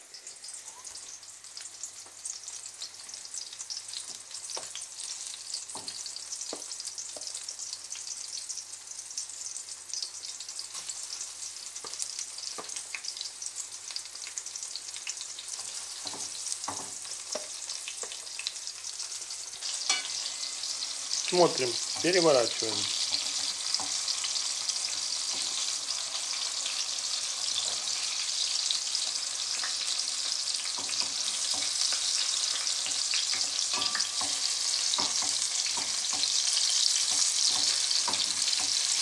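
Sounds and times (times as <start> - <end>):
batter frying in hot oil: 0.0 - 39.0.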